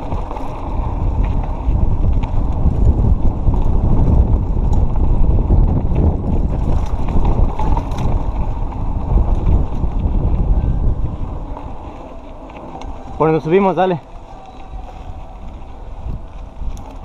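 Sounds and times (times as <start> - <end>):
bike clicks and rattles: 0.0 - 17.0
bike tyres rolling on dirt: 0.0 - 17.0
wind buffeting microphone: 0.0 - 17.0.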